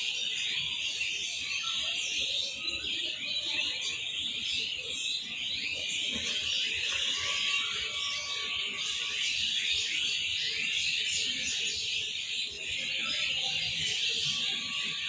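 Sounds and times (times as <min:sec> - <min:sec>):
birds chirping chorus: 0:00.7 - 0:15.0.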